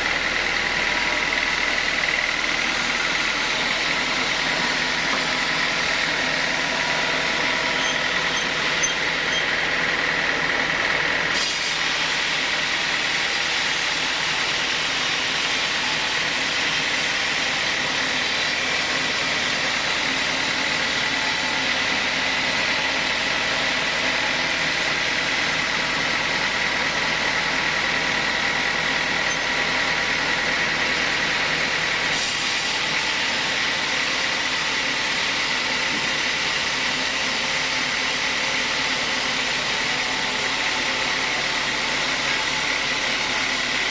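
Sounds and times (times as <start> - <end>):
sawmill saw whining: 0.0 - 43.9.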